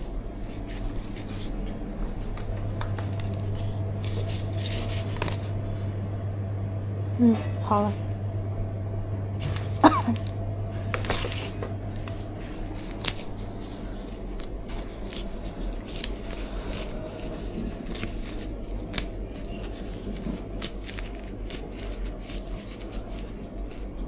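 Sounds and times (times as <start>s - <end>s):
steady low hum: 0.0s - 24.0s
cake box packaging rustling: 0.4s - 5.6s, 9.4s - 24.0s.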